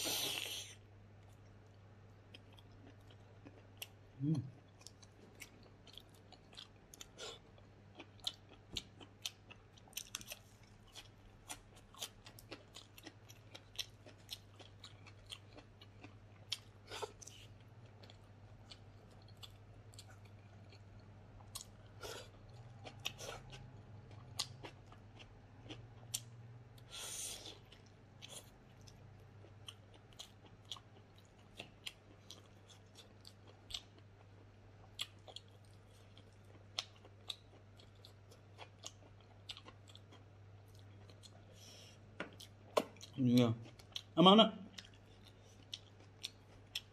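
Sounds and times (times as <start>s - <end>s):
person chewing food: 0.3s - 46.9s.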